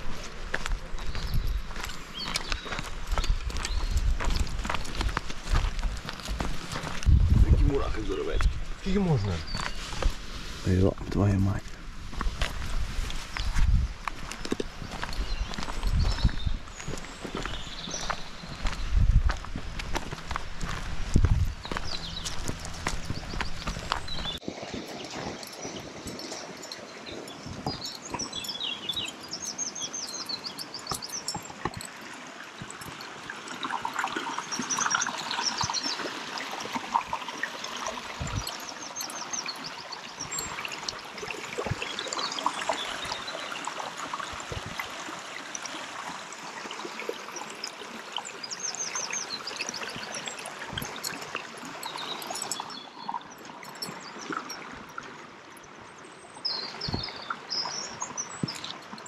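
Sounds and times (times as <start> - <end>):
birds chirping: 0.0 - 11.9, 12.6 - 59.0
stream flowing over rocks: 0.0 - 59.0.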